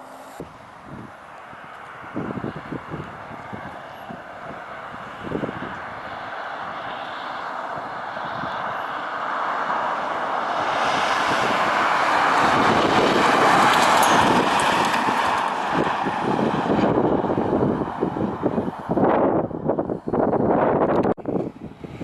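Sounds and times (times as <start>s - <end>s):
vehicle engine tyre and wind noise: 0.0s - 22.0s.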